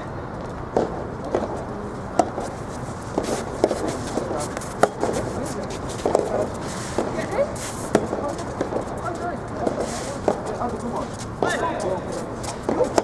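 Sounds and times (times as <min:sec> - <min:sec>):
ball bouncing: 0:00.7 - 0:07.3, 0:07.9 - 0:13.0
racket hitting ball: 0:00.7 - 0:10.6, 0:12.4 - 0:13.0.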